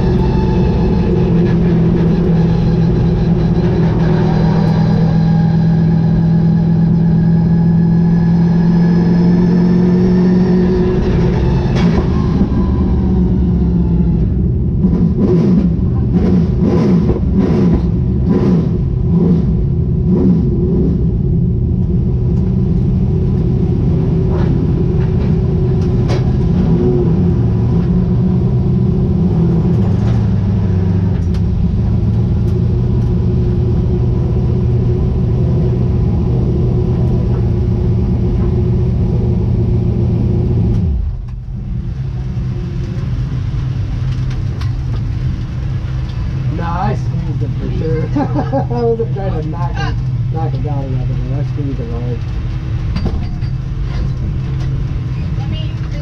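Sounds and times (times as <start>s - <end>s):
race car engine revving: 0.0s - 52.8s.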